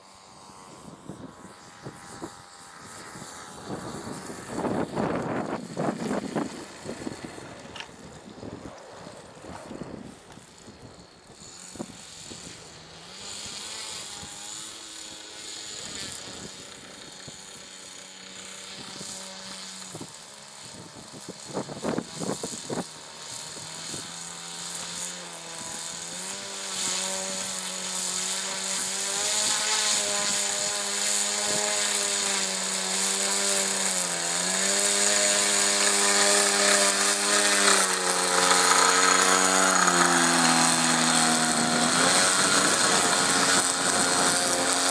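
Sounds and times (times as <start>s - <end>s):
model jet motor running: 0.0s - 44.9s.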